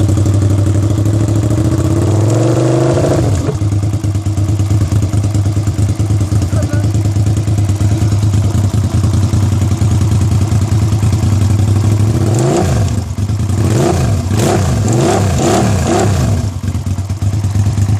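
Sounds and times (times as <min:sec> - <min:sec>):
motorcycle engine idling and revving: 0:00.0 - 0:17.9.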